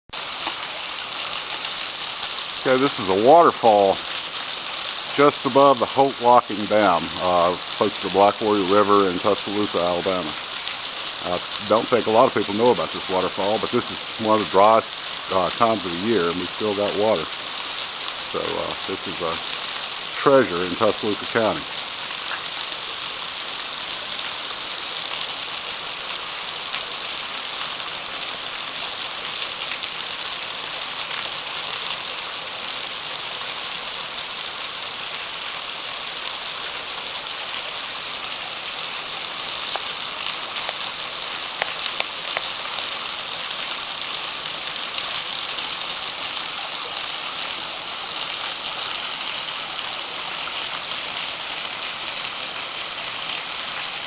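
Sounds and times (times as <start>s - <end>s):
small waterfall splashing: 0.1s - 54.0s.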